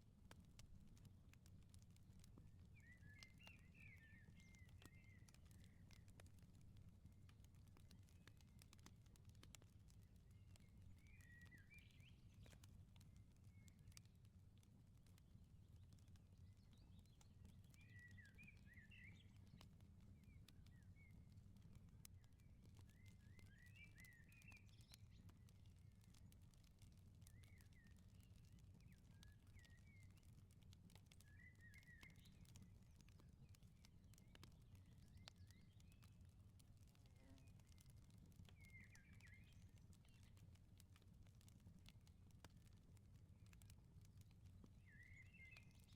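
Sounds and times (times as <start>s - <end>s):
wood fire crackling and popping: 0.0s - 45.9s
small birds chirping: 0.5s - 14.4s, 15.1s - 45.9s.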